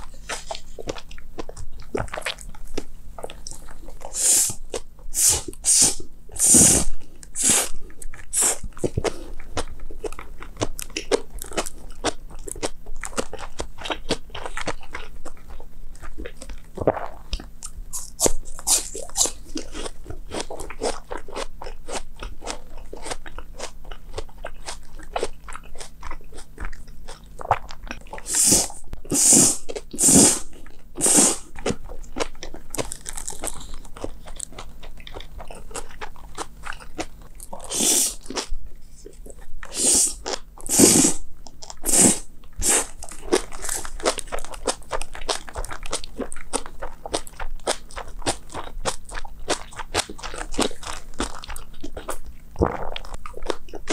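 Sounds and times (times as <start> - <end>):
chewing and crunching: 0.0 - 53.9.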